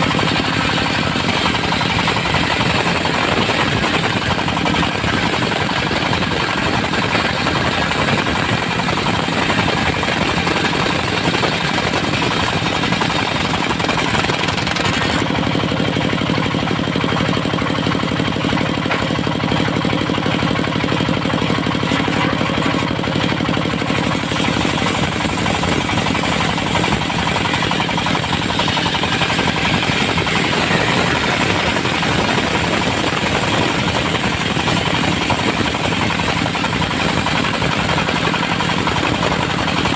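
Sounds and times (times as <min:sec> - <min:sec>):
saw blade ripping wood: 0:00.0 - 0:20.6, 0:21.3 - 0:39.9
diesel engine running: 0:00.0 - 0:39.9.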